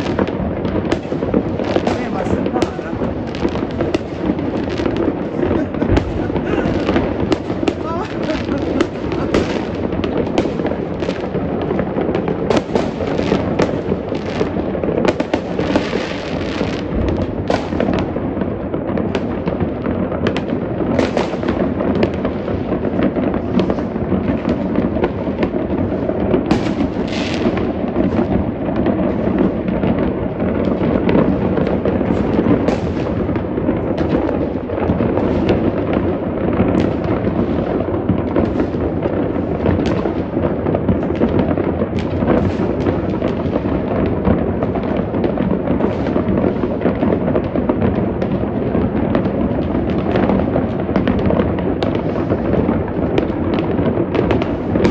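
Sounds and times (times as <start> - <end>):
fireworks and firecrackers banging: 0.0 - 54.9.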